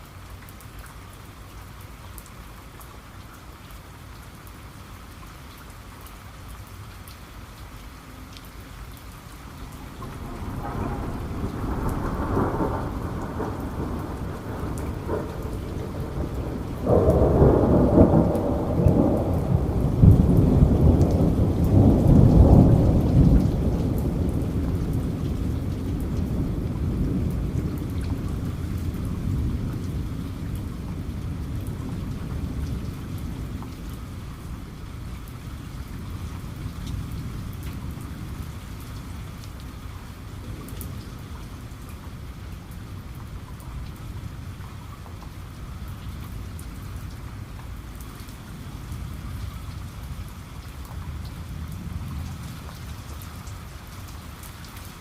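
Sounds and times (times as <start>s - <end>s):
steady rain: 0.0s - 55.0s
thunder rumbling: 9.6s - 54.0s.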